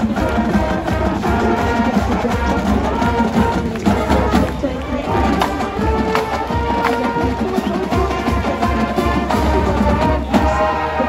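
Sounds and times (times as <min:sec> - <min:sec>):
brass notes: 0:00.0 - 0:11.0
drumline beats: 0:00.0 - 0:11.0.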